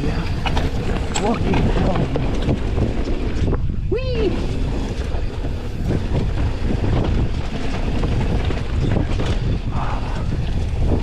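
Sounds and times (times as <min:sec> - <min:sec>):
bike knocks and rattles: 0:00.0 - 0:03.8, 0:04.7 - 0:11.0
mountain bike rolling on dirt: 0:00.0 - 0:11.0
wind on microphone: 0:00.0 - 0:11.0.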